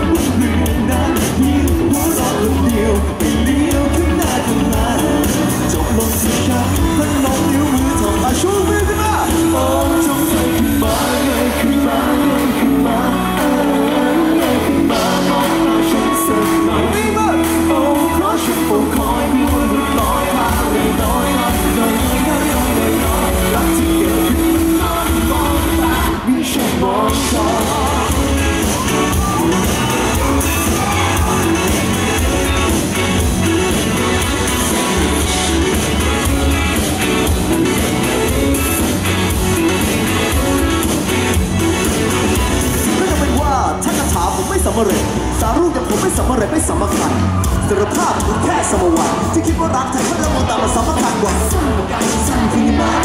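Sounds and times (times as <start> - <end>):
electric guitar: 0.0 - 53.0
man singing: 0.0 - 53.0
rock band playing: 0.0 - 53.0.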